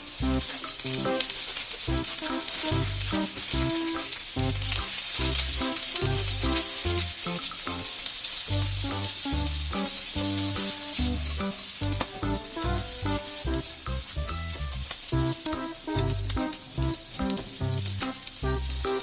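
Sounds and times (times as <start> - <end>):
music with bouncing bass line: 0.0 - 1.2, 1.8 - 19.0
food sizzling in a frying pan: 0.0 - 19.0.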